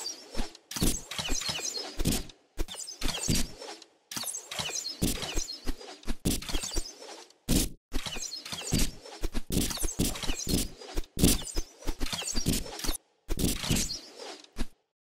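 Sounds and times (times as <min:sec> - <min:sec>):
birds chirping: 0:00.0 - 0:07.2, 0:08.0 - 0:12.9.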